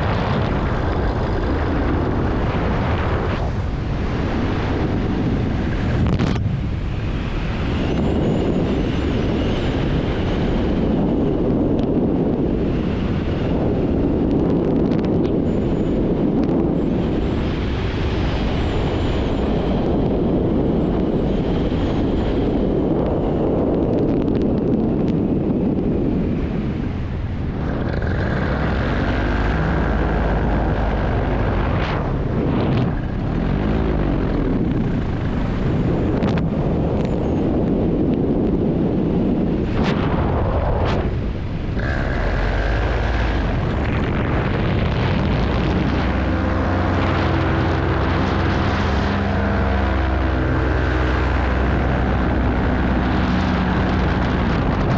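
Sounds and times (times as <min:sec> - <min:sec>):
paramotor engine and propeller: 0:00.0 - 0:54.9
wind noise on microphone: 0:00.0 - 0:54.9.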